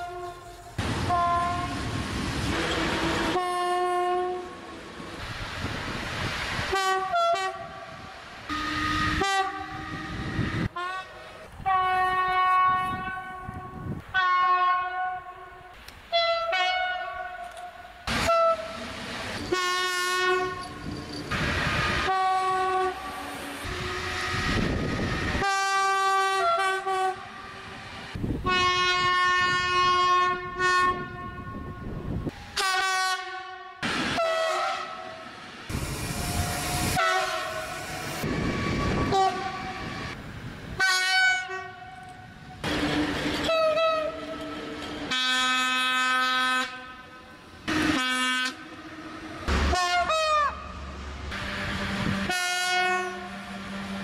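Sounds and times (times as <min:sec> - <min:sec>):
train horn blasts: 0:00.0 - 0:01.9, 0:02.5 - 0:04.6, 0:06.7 - 0:18.8, 0:19.4 - 0:20.8, 0:21.9 - 0:27.8, 0:28.4 - 0:35.2, 0:36.3 - 0:40.2, 0:40.8 - 0:42.2, 0:43.4 - 0:50.7, 0:51.3 - 0:54.0.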